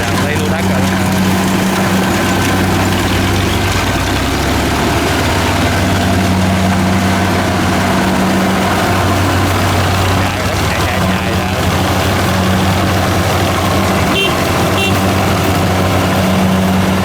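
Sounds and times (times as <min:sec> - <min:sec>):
combine harvester engine droning: 0:00.0 - 0:17.0.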